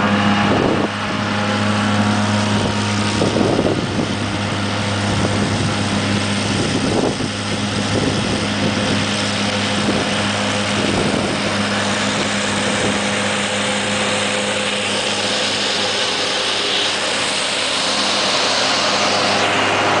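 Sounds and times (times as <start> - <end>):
corn picker engine drone: 0.0 - 20.0
mechanical rushing: 0.0 - 20.0.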